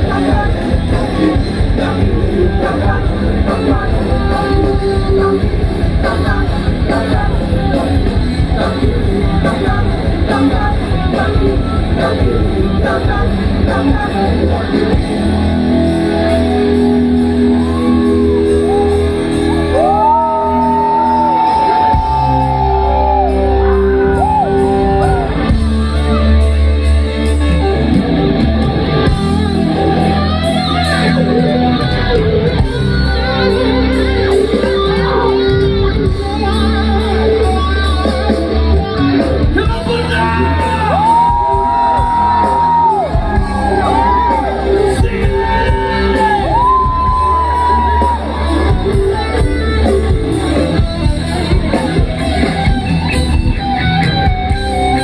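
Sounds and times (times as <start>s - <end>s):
bass guitar: 0.0s - 55.0s
drums: 0.0s - 55.0s.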